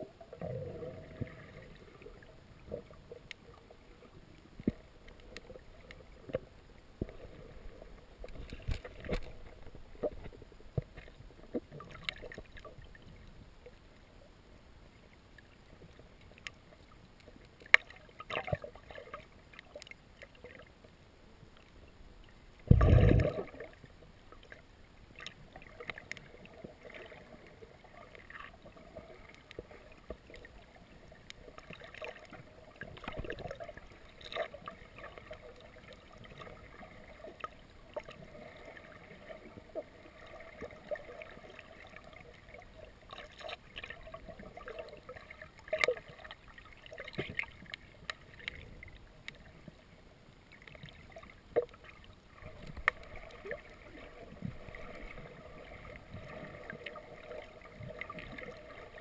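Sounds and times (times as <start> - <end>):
muffled underwater wash: 0.0 - 59.0.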